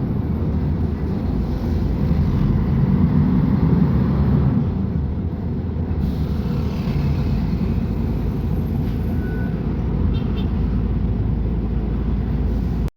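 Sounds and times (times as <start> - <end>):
bus diesel engine rumbling: 0.0 - 12.9.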